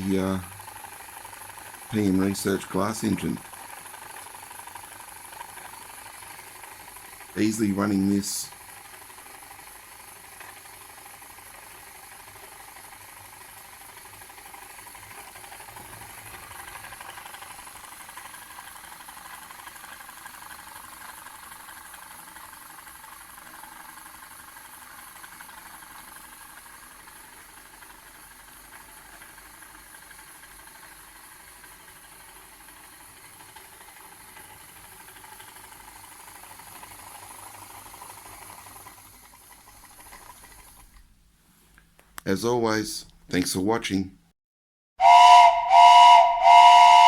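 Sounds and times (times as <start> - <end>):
model engine running: 0.0 - 41.0.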